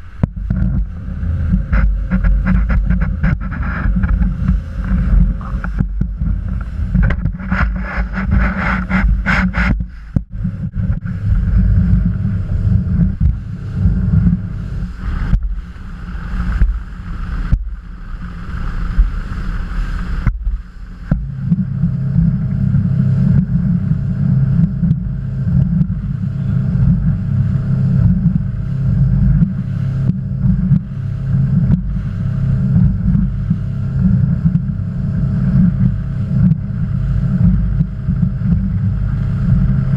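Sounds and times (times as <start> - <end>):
motorboat engine drone: 0.0 - 39.9
wind on microphone: 0.0 - 39.9.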